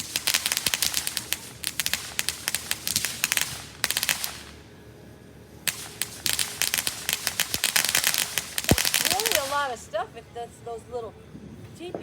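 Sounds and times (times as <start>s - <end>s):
fireworks crackling: 0.0s - 10.2s.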